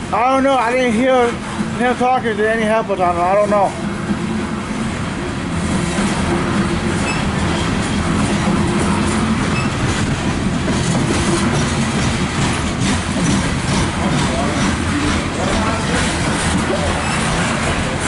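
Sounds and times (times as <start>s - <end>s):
freight train wheels rumbling: 0.0s - 18.0s
wheels clacking over rail joints: 0.0s - 18.0s.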